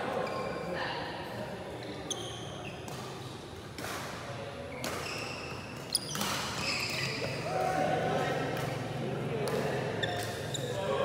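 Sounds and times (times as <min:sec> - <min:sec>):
court shoes squeaking: 0:00.0 - 0:00.7, 0:01.8 - 0:04.0, 0:04.7 - 0:11.0.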